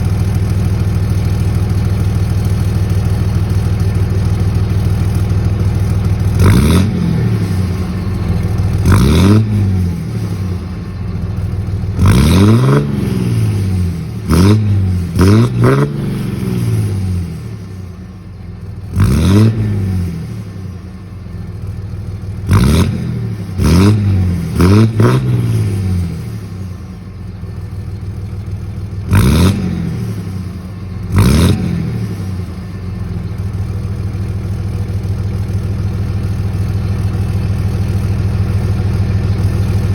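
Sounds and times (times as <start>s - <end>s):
diesel engine idling: 0.0s - 39.9s
engine revs: 0.0s - 39.9s.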